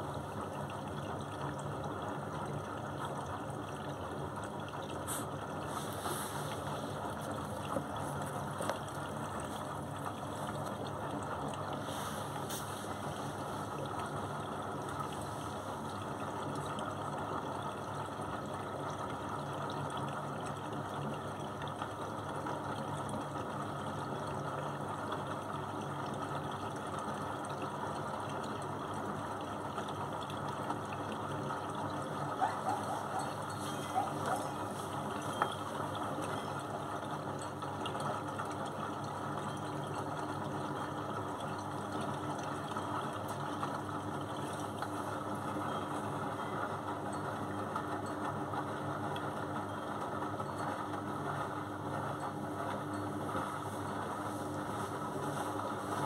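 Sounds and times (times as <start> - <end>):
washing machine motor hum: 0.0 - 56.0
water sloshing in washing machine: 0.0 - 56.0.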